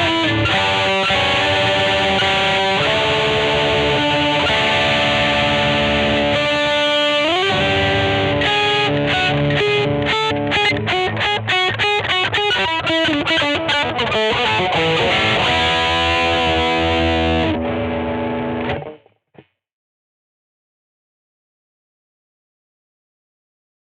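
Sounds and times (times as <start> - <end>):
distorted electric guitar: 0.0 - 19.5.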